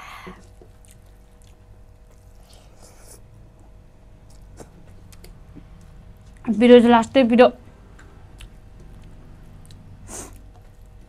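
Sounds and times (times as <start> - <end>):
faint eating sounds: 0.0 - 6.6, 7.9 - 11.0.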